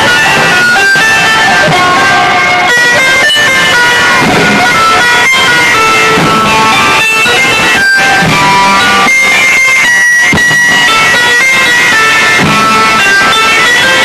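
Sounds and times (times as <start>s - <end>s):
plucked-string melody: 0.0s - 14.0s
sharp percussive strokes: 0.0s - 14.0s.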